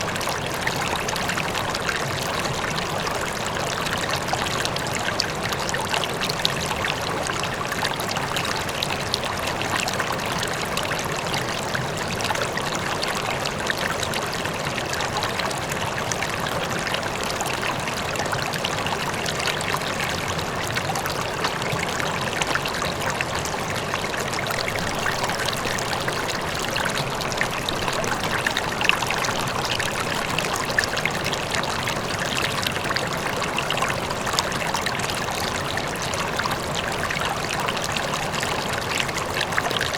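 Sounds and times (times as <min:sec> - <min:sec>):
distant waterfall: 0:00.0 - 0:39.9
river water rushing over rocks: 0:00.0 - 0:39.9.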